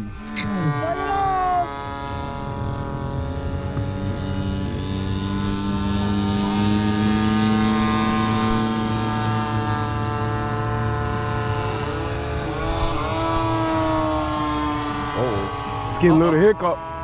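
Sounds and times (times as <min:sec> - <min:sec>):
model airplane engine and propeller: 0:00.0 - 0:17.0.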